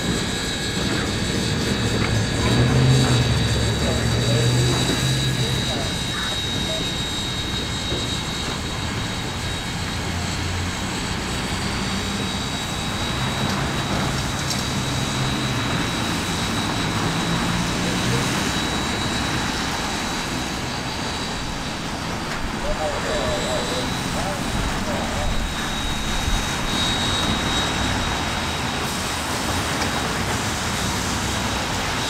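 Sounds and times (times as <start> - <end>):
thin high whine: 0.0 - 32.0
train rumbling and rushing: 0.0 - 32.0.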